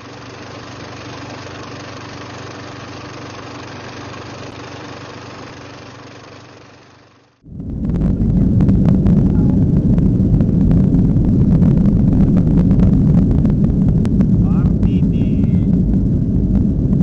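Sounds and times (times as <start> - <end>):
engine-like drone: 0.0 - 17.0.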